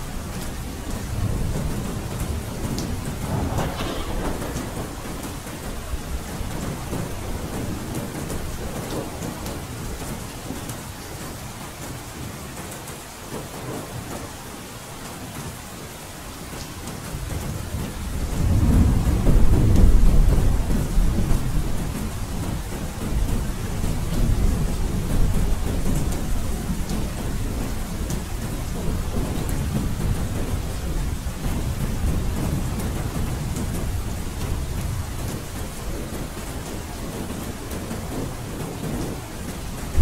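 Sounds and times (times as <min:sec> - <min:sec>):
steady rain falling: 0:00.0 - 0:40.0
low roll of thunder: 0:00.2 - 0:10.1, 0:17.1 - 0:40.0.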